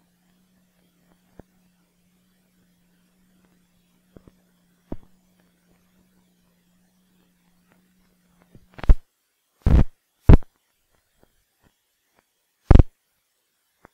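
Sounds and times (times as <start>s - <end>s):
faint low hum: 0.0s - 13.9s.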